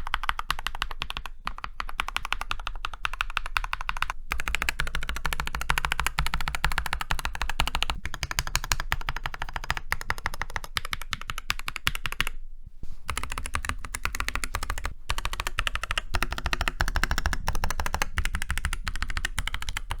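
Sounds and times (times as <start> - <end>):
typing on mechanical keyboard: 0.0 - 12.4, 13.1 - 20.0.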